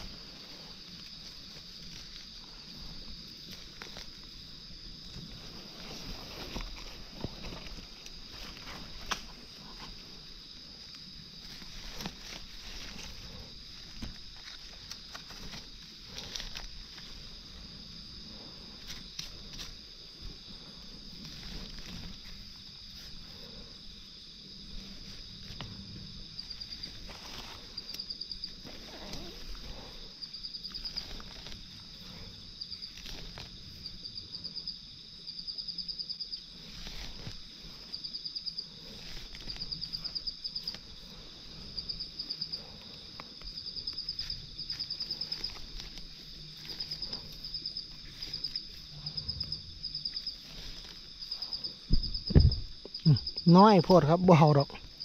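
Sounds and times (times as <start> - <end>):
insect pulsing trills: 0.0 - 55.0
insects buzzing: 0.0 - 55.0
rustles: 0.0 - 55.0.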